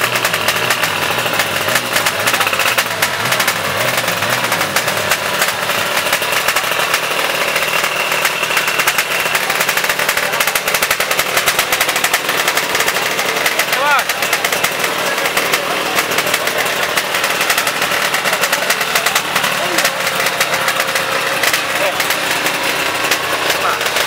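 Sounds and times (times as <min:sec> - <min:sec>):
motorcycle engines crackling loudly: 0:00.0 - 0:24.0.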